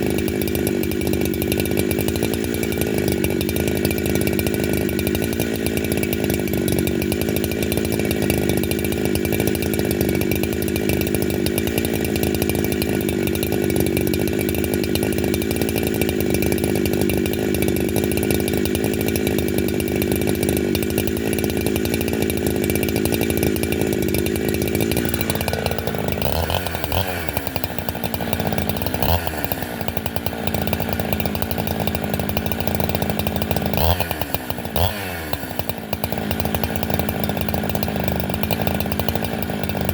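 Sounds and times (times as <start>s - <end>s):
chainsaw running at high speed: 0.0s - 39.9s.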